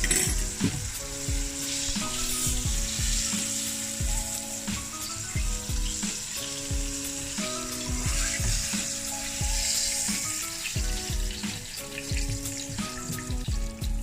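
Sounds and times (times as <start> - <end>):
background music with steady beat: 0.0 - 14.0
oil sizzling in a frying pan: 0.0 - 14.0.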